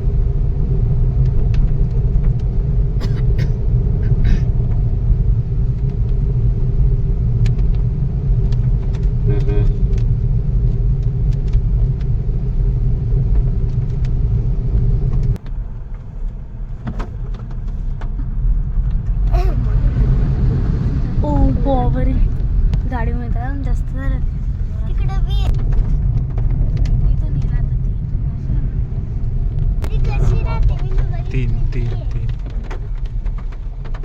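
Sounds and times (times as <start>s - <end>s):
engine hum: 0.0s - 34.0s
vehicle road rumble: 0.0s - 34.0s.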